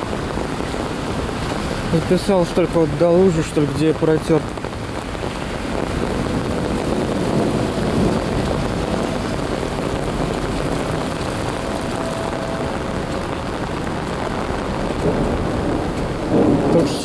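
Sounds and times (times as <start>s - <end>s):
low thunder rumble: 0.0s - 17.0s
steady rain hiss: 0.0s - 17.0s.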